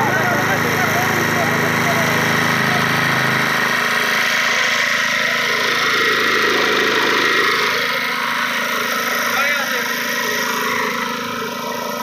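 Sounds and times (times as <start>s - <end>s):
high whine: 0.0s - 12.0s
small engine running: 0.0s - 12.0s.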